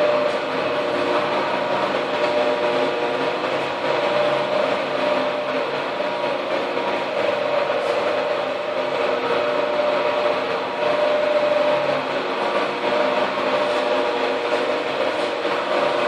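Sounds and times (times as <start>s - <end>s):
electric buffing machine running: 0.0s - 16.0s.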